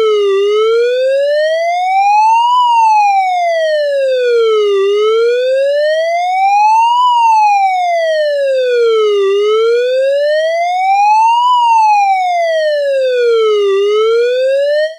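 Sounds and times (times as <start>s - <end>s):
siren wailing: 0.0s - 14.9s.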